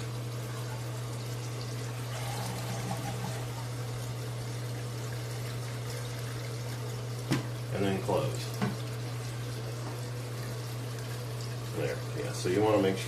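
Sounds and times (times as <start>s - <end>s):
water draining from toilet tank: 0.0s - 12.4s.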